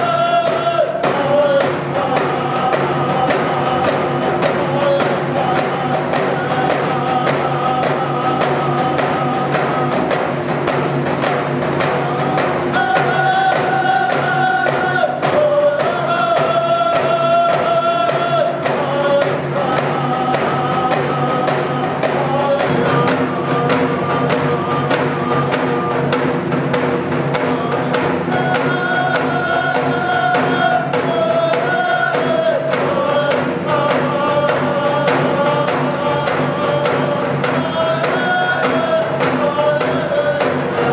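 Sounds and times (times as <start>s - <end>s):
voices singing held notes: 0.0s - 26.3s, 26.9s - 40.9s
quick even beat: 0.0s - 40.9s.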